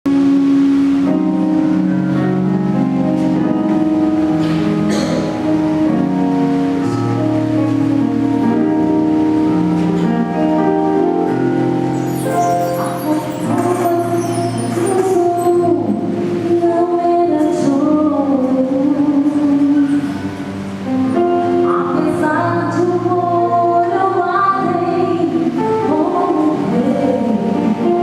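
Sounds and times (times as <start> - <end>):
instrumental backing: 0.1 - 28.0.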